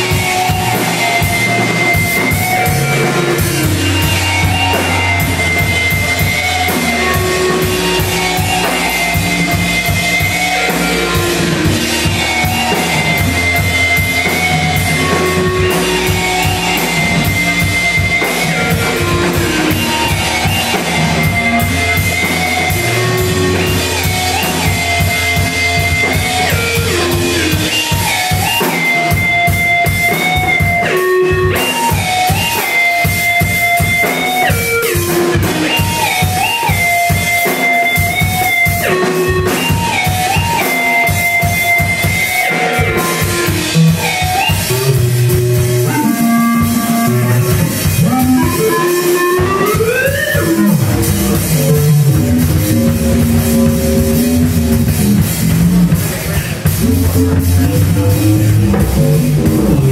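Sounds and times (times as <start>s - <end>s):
fast drum kit hits: 0.0s - 59.9s
loud live band music: 0.0s - 59.9s.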